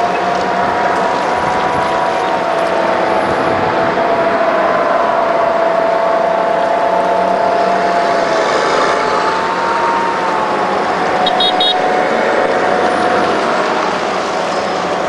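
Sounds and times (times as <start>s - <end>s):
armored vehicles driving past: 0.0s - 15.0s.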